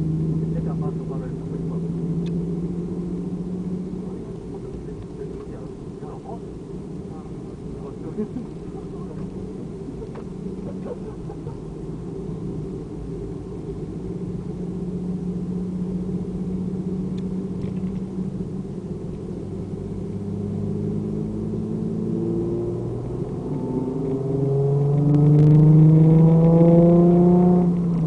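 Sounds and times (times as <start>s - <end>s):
car engine drone: 0.0s - 28.0s.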